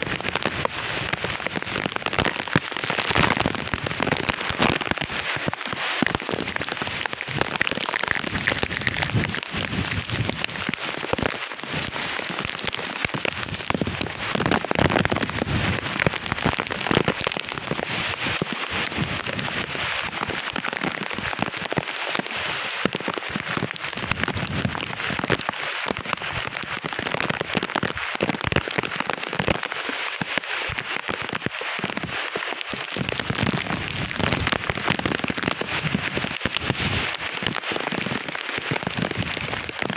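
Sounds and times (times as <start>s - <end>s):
wind gusting through trees: 0.0s - 29.0s, 29.6s - 39.9s
heavy rain hissing: 0.0s - 39.9s.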